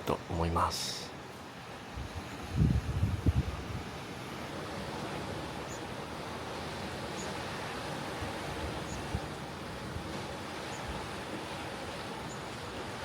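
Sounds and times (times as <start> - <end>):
ocean surf: 0.0 - 13.0.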